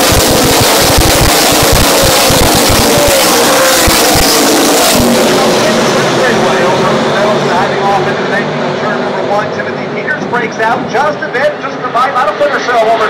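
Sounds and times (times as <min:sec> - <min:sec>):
many race truck engines at full throttle: 0:00.0 - 0:13.0.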